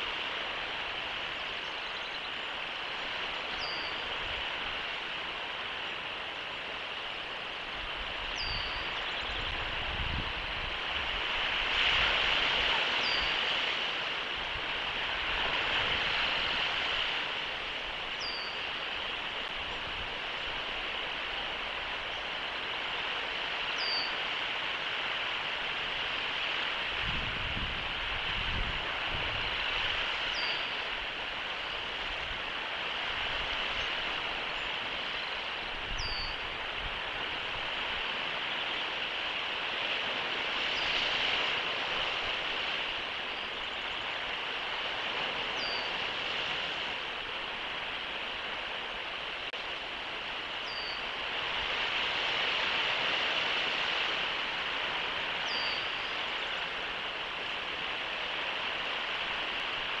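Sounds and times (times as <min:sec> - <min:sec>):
rushing outdoor background noise: 0:00.0 - 1:00.0.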